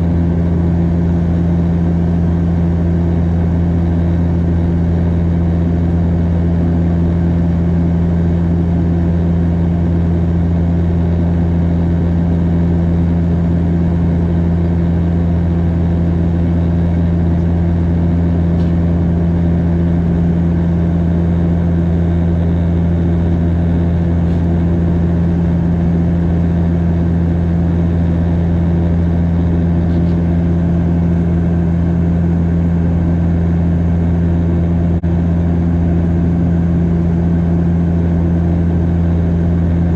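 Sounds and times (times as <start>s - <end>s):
propeller and engine drone: 0.0s - 39.9s.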